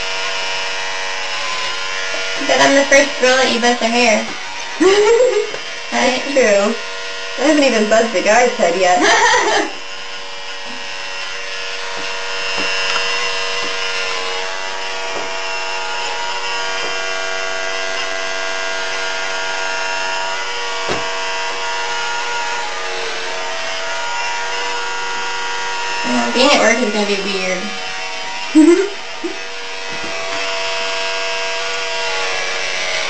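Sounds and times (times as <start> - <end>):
electric hair clippers buzzing: 0.0 - 33.0.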